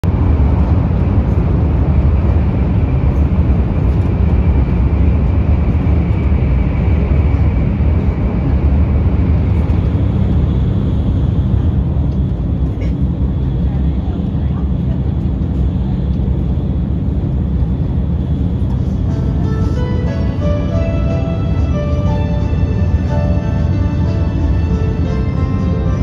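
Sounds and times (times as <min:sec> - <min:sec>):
train running inside passenger car: 0:00.0 - 0:26.0.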